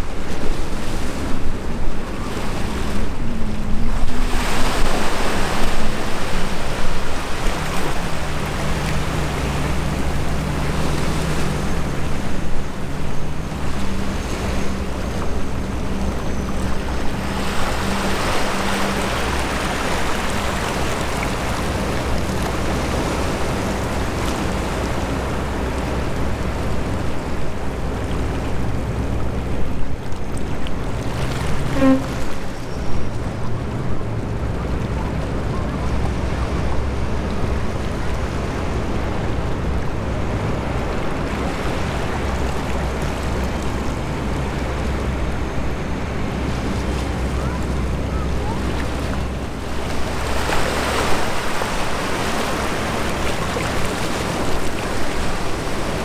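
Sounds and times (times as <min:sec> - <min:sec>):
diesel engines droning: 0:00.0 - 0:56.0
water washing at hull: 0:00.0 - 0:56.0
wind on microphone: 0:00.0 - 0:56.0.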